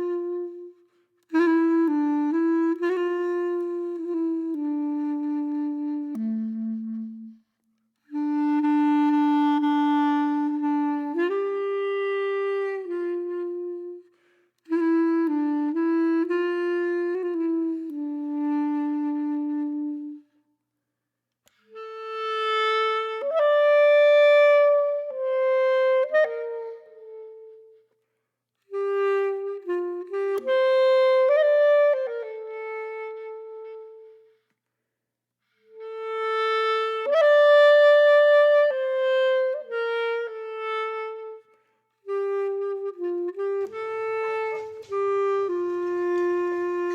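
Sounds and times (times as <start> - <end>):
solo wind instrument melody: 0.0 - 20.6, 21.5 - 34.5, 35.5 - 46.9.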